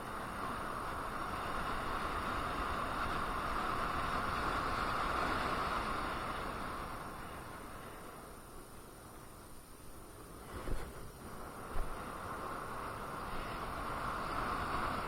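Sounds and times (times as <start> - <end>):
road and wind rush: 0.0 - 15.0.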